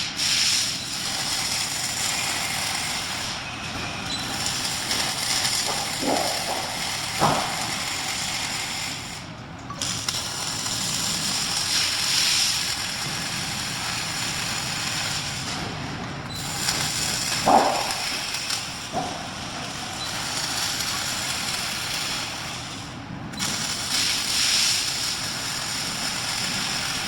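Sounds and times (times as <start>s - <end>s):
welding arc hissing: 0.0s - 3.4s, 4.1s - 15.5s, 16.3s - 27.0s.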